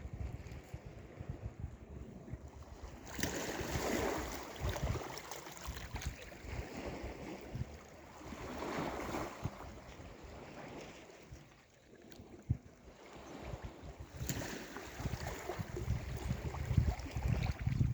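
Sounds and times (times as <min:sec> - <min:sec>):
wind buffeting microphone: 0:00.0 - 0:11.6, 0:12.2 - 0:17.9
sea waves breaking on shore: 0:02.4 - 0:17.9.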